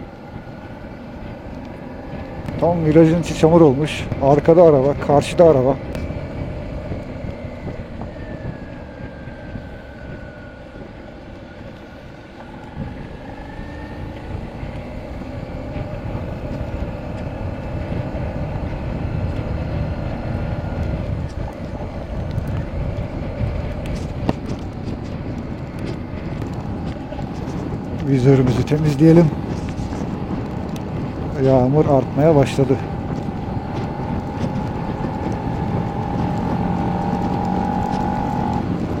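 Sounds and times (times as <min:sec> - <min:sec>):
motorcycle engine: 0:00.0 - 0:39.0
steady low rumble: 0:00.0 - 0:39.0.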